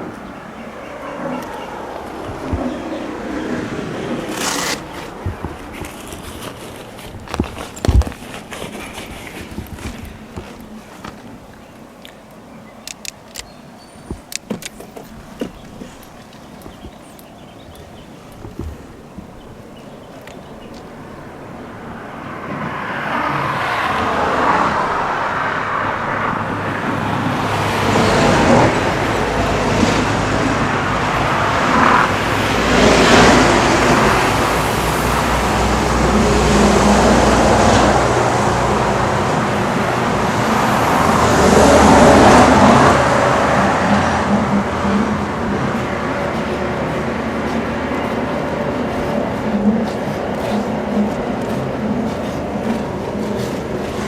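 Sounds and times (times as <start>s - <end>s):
low engine hum: 0.0s - 54.0s
vehicles passing: 0.0s - 54.0s.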